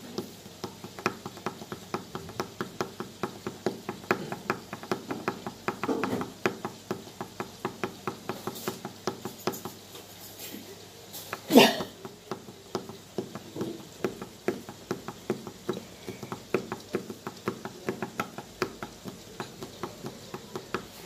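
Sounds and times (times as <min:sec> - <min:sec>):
fingertips tapping a miniature drum: 0:00.0 - 0:09.9, 0:11.1 - 0:21.0.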